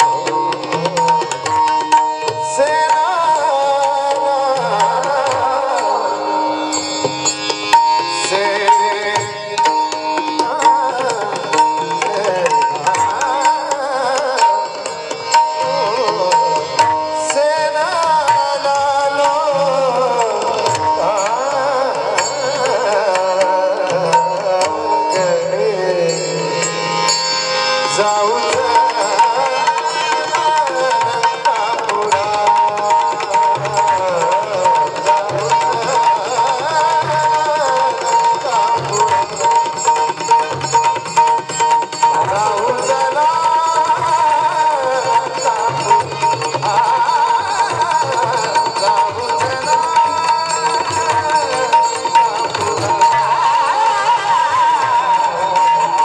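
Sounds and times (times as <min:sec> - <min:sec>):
person singing devotional song: 0:00.0 - 0:56.0.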